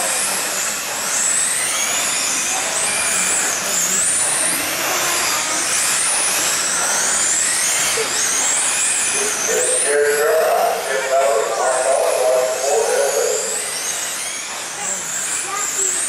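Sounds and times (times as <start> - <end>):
electric motor whines of rc cars: 0.0 - 16.0.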